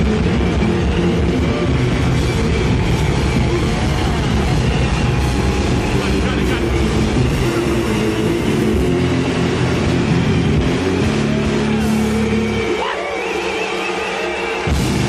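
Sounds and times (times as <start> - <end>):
bass guitar: 0.0 - 12.9, 14.6 - 15.0
drum kit: 0.0 - 15.0.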